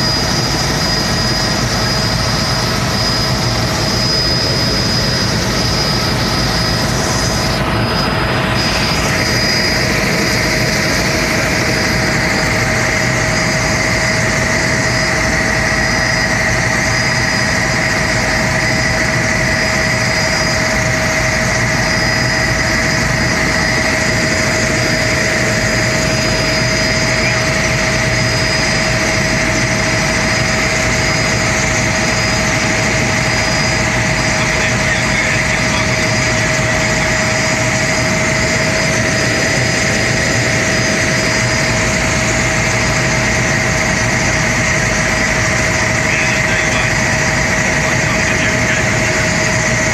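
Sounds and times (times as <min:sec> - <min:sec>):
constant high whine: 0:00.0 - 0:49.9
helicopter engine and rotor drone: 0:00.0 - 0:49.9.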